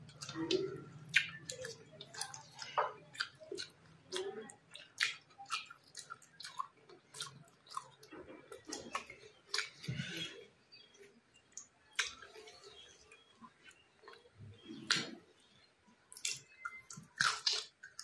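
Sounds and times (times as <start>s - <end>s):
wet chewing and lip smacks: 0.0s - 10.8s, 11.4s - 15.2s, 16.1s - 18.0s.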